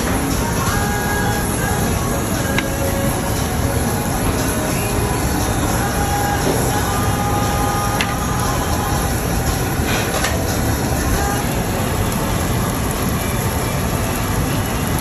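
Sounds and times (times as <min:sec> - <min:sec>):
ventilation fans roaring: 0:00.0 - 0:15.0.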